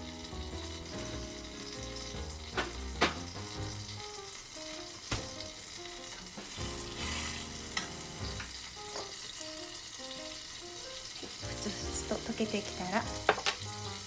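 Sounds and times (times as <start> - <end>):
butter sizzling in saucepan: 0.0 - 14.0.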